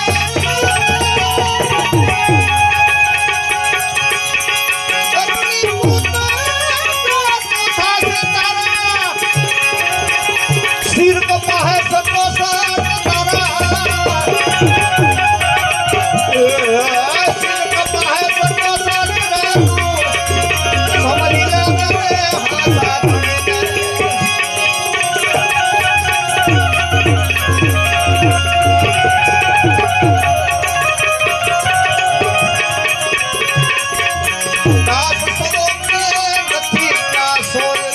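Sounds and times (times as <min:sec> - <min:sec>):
devotional music: 0:00.0 - 0:37.9
tabla drumming: 0:00.0 - 0:37.9.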